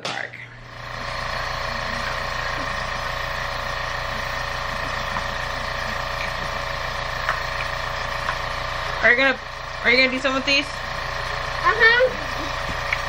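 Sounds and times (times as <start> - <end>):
medical machine motor humming: 0.4 - 13.0.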